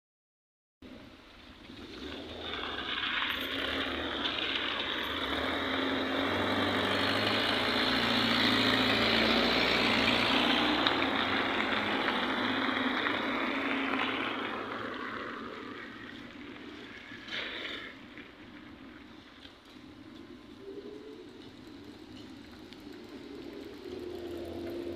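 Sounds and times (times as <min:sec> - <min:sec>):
cars driving past on wet road: 0:01.0 - 0:20.6, 0:21.3 - 0:24.9.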